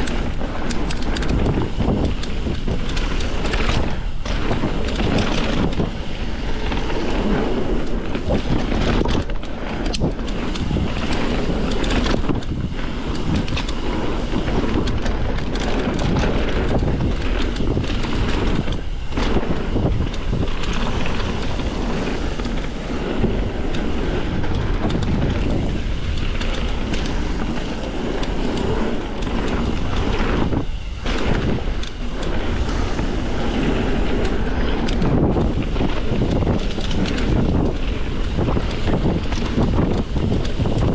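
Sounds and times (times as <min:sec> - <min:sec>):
bike tyres rolling on dirt: 0:00.0 - 0:40.9
wind rushing over microphone: 0:00.0 - 0:40.9.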